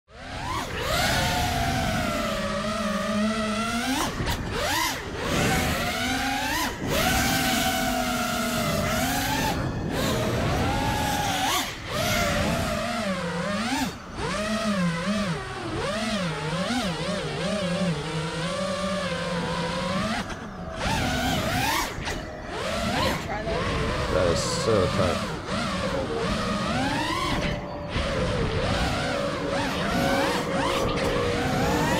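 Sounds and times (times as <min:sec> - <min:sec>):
drone motors whining: 0:00.1 - 0:31.9.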